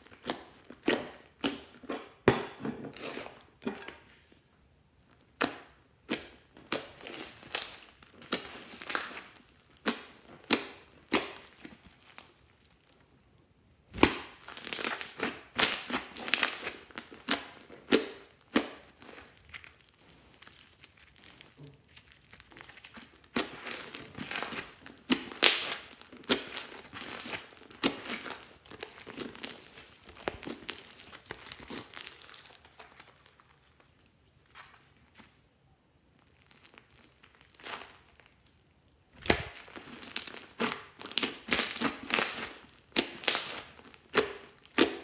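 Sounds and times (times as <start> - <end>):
hands squishing slime: 0.0 - 2.2, 5.0 - 13.1, 13.8 - 33.9, 36.2 - 45.0
slime crackling and popping: 0.0 - 2.3, 5.0 - 34.1, 36.1 - 45.0.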